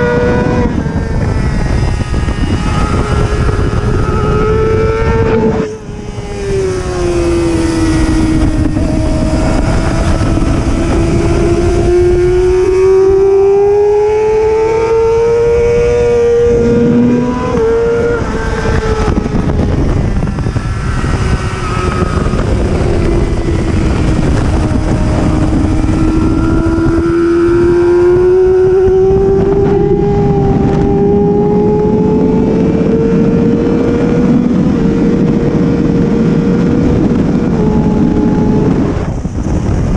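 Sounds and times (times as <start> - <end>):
racing motorcycle engine: 0.0 - 39.9
wind rush: 0.0 - 39.9.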